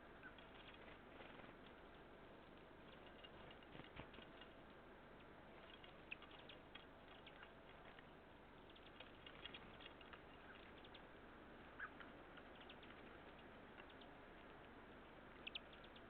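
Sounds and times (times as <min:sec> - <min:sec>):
low steady hiss: 0:00.0 - 0:16.0
songbird ticks and chips: 0:00.2 - 0:16.0.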